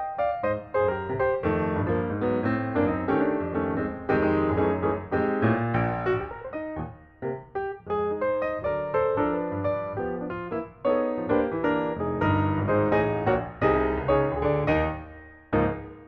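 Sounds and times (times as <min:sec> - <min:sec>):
piano repeated pattern: 0:00.0 - 0:16.0.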